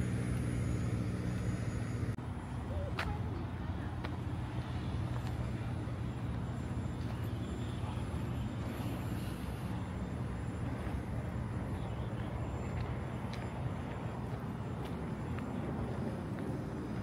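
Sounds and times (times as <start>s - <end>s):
motor vehicle rumble and hum: 0.0s - 17.0s.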